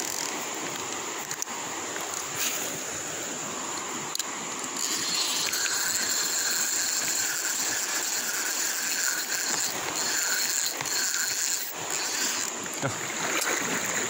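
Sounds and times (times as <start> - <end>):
high-pitched hiss: 0.0 - 14.0
river water flowing: 0.0 - 14.0.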